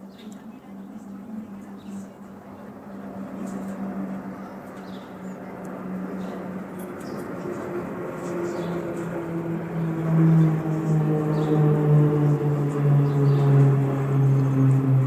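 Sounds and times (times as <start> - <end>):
aircraft engine hum: 0.0 - 15.0.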